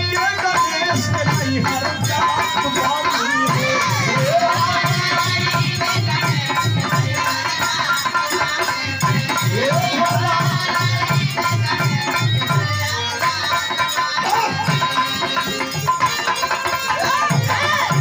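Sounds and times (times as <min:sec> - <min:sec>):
person singing: 0:00.0 - 0:15.6
jingling hand percussion: 0:00.0 - 0:18.0
steady drum beat: 0:00.0 - 0:18.0.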